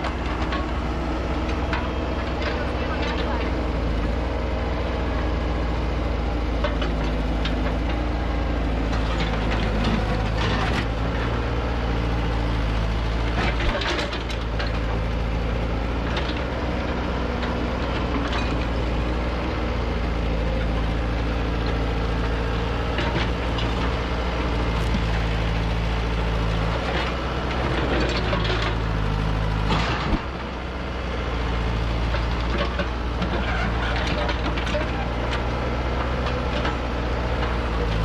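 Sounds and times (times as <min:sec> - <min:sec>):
diesel engines running: 0:00.0 - 0:38.0.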